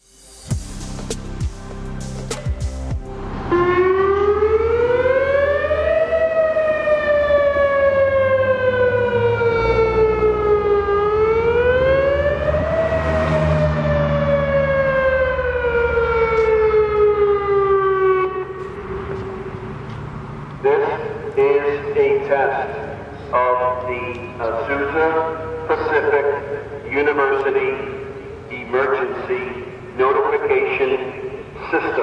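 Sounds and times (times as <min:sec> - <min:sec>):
warning siren wailing: 0:03.1 - 0:32.0.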